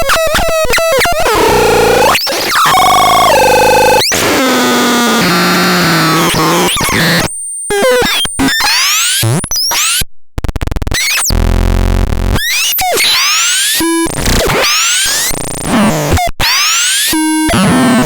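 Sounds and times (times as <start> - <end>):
synthesizer buzzy tones: 1.2 - 10.0, 10.9 - 18.0.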